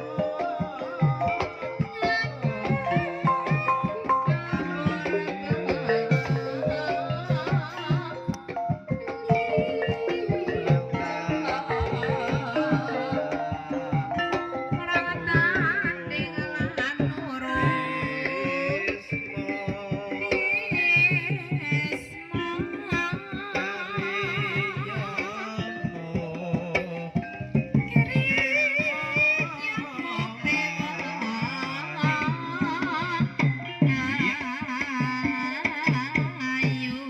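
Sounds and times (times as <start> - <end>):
gamelan ensemble music: 0.0 - 37.0
person singing with vibrato: 0.0 - 37.0.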